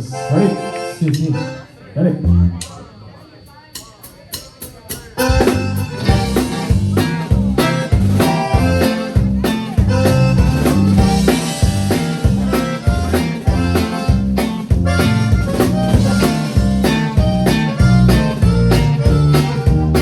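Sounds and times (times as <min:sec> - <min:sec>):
accordion: 0:00.0 - 0:02.7, 0:05.2 - 0:20.0
bass: 0:00.0 - 0:02.7, 0:05.2 - 0:20.0
bajo sexto guitar: 0:00.0 - 0:03.2, 0:04.8 - 0:20.0
drum kit: 0:03.7 - 0:20.0.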